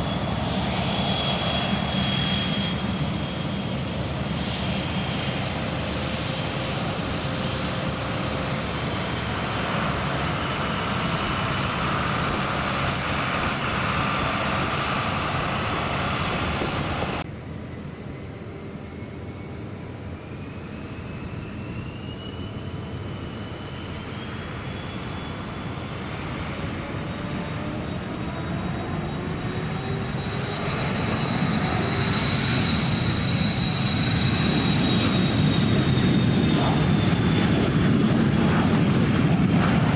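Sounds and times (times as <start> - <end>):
aircraft engine noise: 0.0 - 39.9
engine whine rising in pitch: 0.0 - 39.9.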